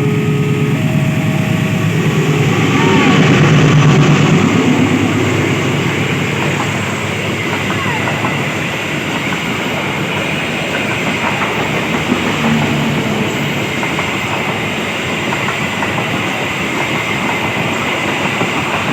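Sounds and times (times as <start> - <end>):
train wheels rushing on rails: 0.0 - 18.9.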